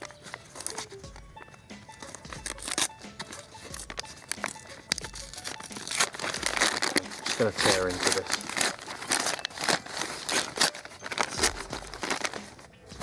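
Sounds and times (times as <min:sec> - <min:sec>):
paper bag crinkling and tearing: 0:00.0 - 0:12.7
faint background music: 0:00.0 - 0:13.0.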